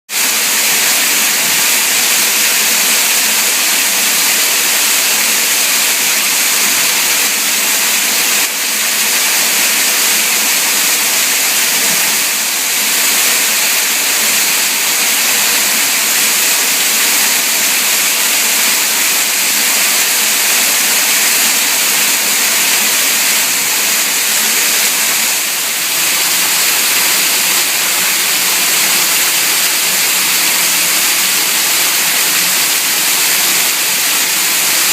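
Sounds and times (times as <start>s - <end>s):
small waterfall pouring and splashing: 0.1s - 34.9s.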